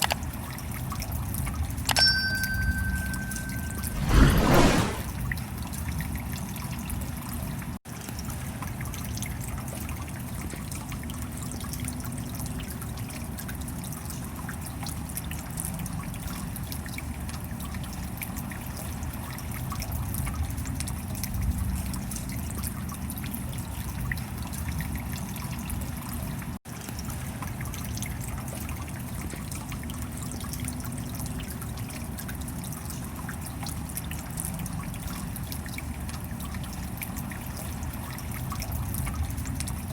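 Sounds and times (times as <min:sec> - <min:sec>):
water trickling and dripping: 0:00.0 - 0:04.0, 0:05.4 - 0:39.9.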